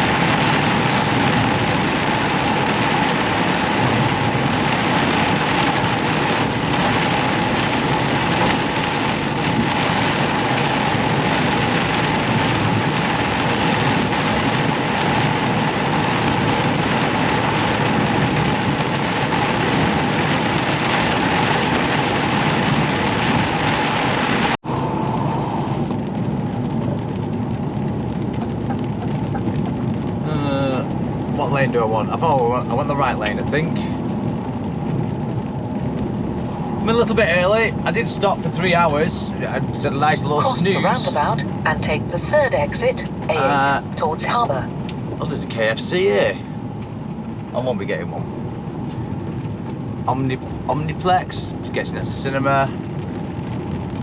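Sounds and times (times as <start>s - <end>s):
truck road and engine noise: 0.0s - 31.7s, 32.3s - 51.6s.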